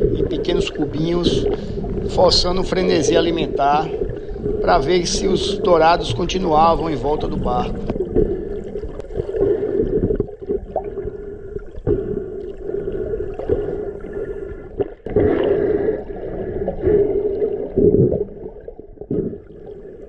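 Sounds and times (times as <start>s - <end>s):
muffled underwater gurgling: 0.0s - 20.0s.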